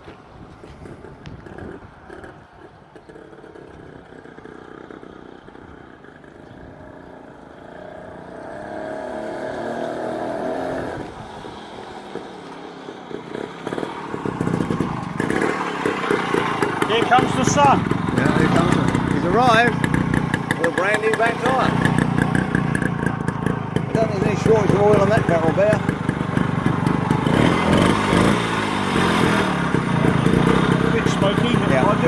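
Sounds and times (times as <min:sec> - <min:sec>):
distant motorcycle engine: 0:00.0 - 0:32.0.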